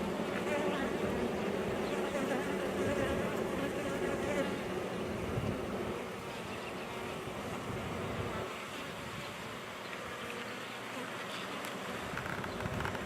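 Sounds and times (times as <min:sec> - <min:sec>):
bees buzzing: 0:00.0 - 0:12.7.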